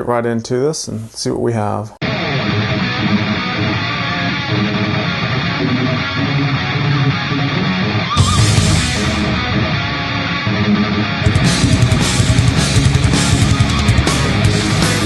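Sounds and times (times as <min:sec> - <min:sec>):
rock music with electric guitar: 0:02.0 - 0:15.0.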